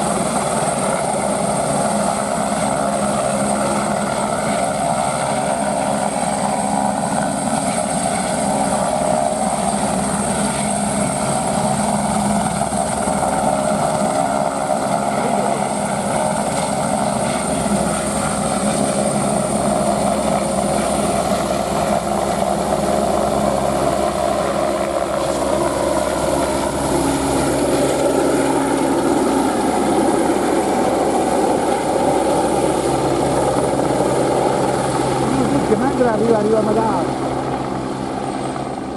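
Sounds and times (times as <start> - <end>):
helicopter rotor chopping: 0.0 - 38.9
turbine whine: 0.0 - 38.9.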